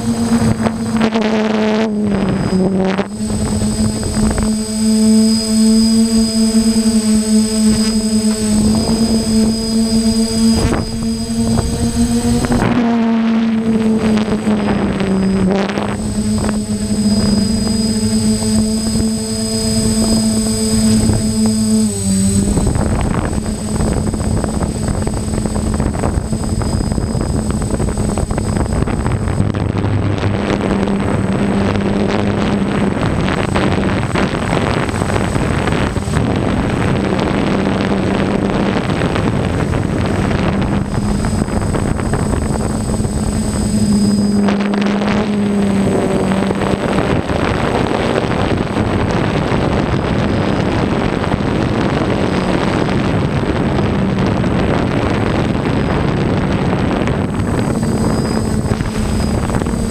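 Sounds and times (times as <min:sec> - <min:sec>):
drone motors humming: 0:00.0 - 0:59.9
high faint whine: 0:00.0 - 0:59.9
wind buffeting on microphone: 0:00.0 - 0:59.9.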